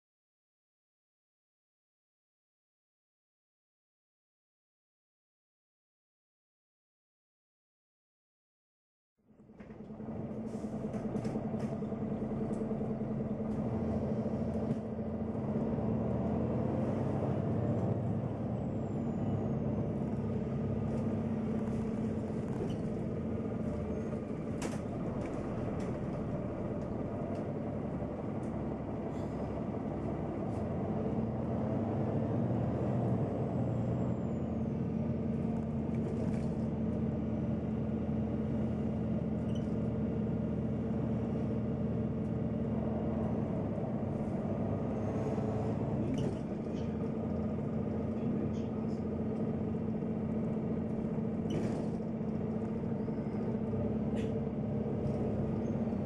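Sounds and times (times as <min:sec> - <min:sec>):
bus engine: 0:09.2 - 0:56.0
road noise: 0:09.5 - 0:56.0.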